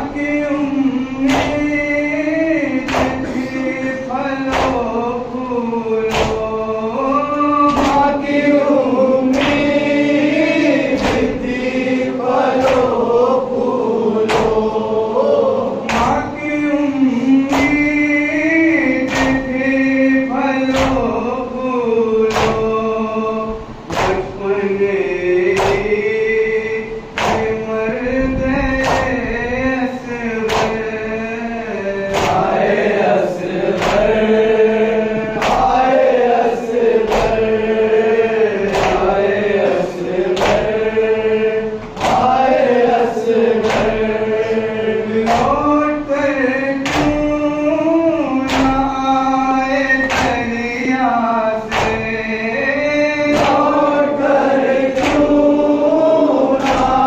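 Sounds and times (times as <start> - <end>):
men chanting a lament: 0.0 - 57.0
rhythmic chest-beating slaps: 0.0 - 57.0.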